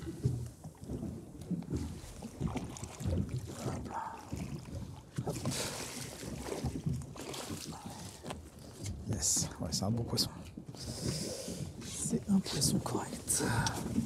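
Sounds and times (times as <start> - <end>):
water slapping against boat: 0.0 - 14.0.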